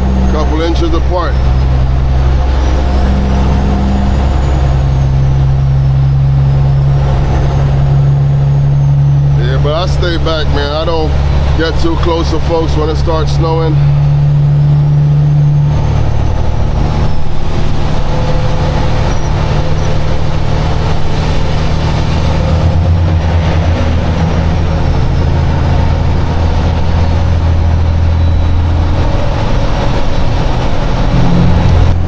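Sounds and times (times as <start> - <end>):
road and tyre noise: 0.0 - 32.0
truck engine droning: 0.0 - 32.0.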